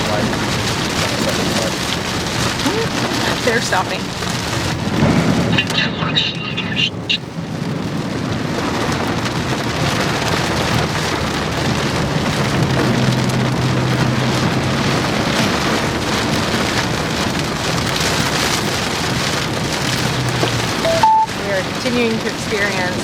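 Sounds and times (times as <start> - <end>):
heavy rain on vehicle roof: 0.0 - 23.0.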